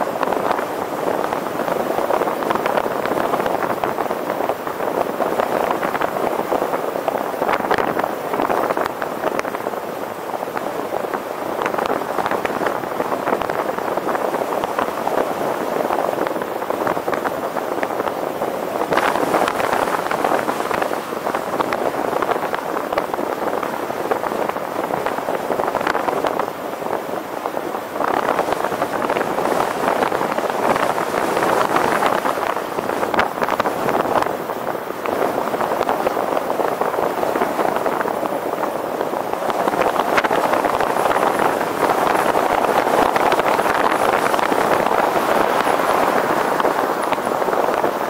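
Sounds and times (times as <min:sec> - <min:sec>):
road and traffic noise: 0:00.0 - 0:48.0
wind on microphone: 0:00.0 - 0:48.0.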